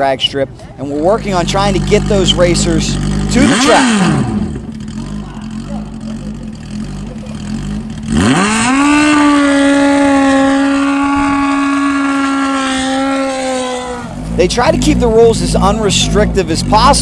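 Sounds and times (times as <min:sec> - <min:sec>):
motorcycle engine revving: 0:00.9 - 0:17.0.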